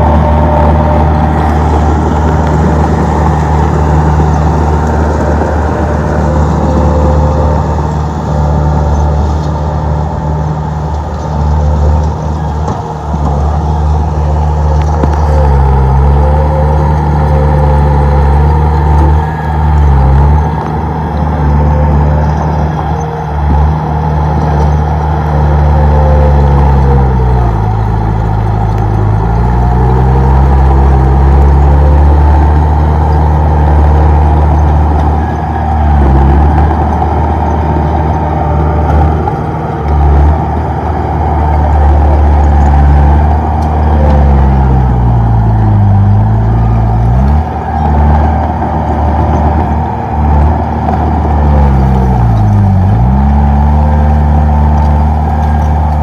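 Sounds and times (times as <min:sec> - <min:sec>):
bulldozer diesel engine straining: 0:00.0 - 0:56.0.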